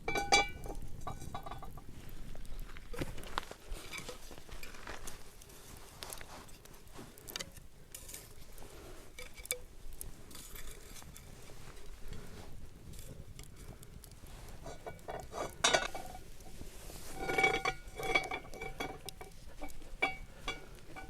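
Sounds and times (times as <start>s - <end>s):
soft rustling: 1.0s - 21.0s.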